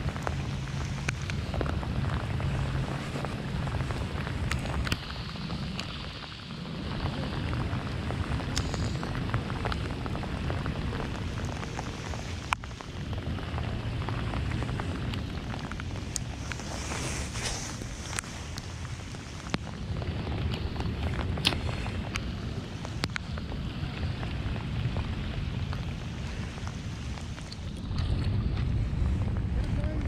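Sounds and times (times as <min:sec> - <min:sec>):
low rumble: 0:00.0 - 0:30.0
rain falling: 0:00.0 - 0:30.0
raindrops ticking: 0:00.0 - 0:30.0.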